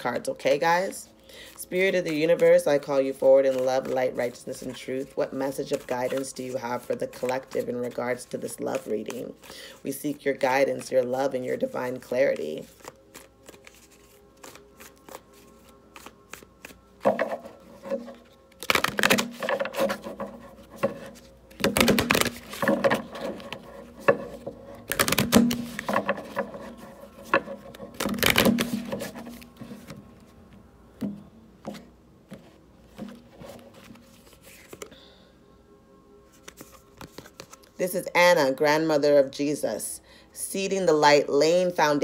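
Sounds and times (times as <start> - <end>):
cards being shuffled: 0.8 - 30.4, 31.0 - 34.9, 36.3 - 37.8.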